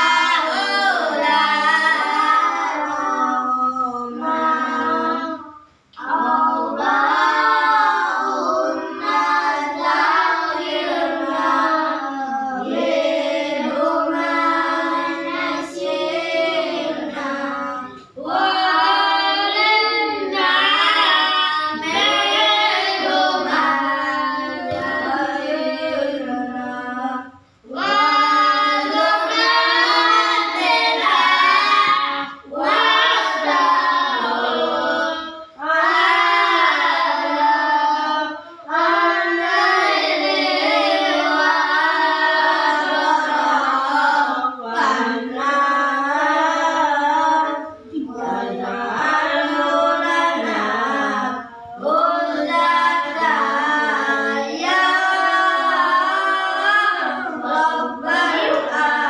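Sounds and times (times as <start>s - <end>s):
children chanting a prayer: 0.0s - 59.0s.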